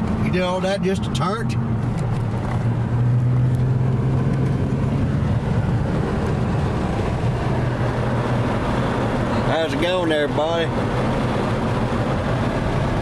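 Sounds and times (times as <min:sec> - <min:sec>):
car engine hum: 0:00.0 - 0:13.0
road and tyre noise: 0:00.0 - 0:13.0.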